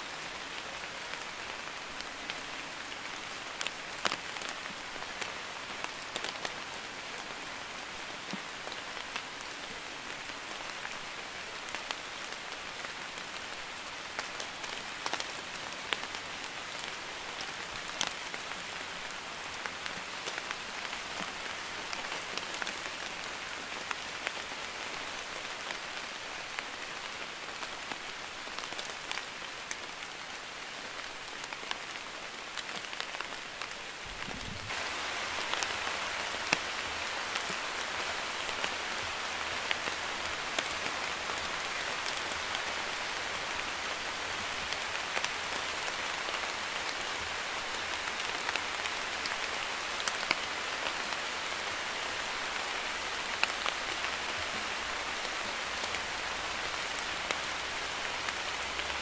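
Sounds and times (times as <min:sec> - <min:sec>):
light drizzling rain: 0:00.0 - 0:59.0.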